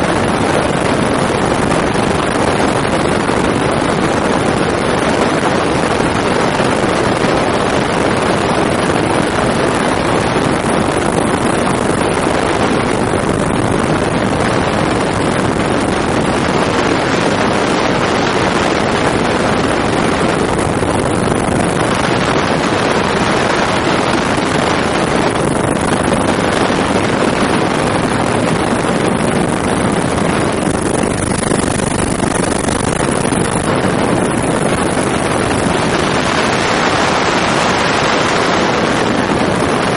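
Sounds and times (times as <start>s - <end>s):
helicopter engine and rotor: 0.0s - 39.9s
wind on microphone: 0.0s - 39.9s.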